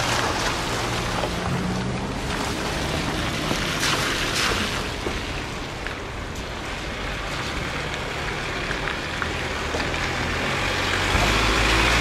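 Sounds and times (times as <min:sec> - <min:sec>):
truck approaching: 0:00.0 - 0:12.0.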